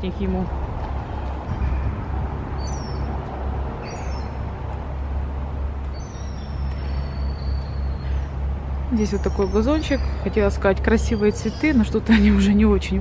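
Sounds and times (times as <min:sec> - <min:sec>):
city traffic rumble: 0:00.0 - 0:13.0
small birds chirping: 0:01.2 - 0:13.0.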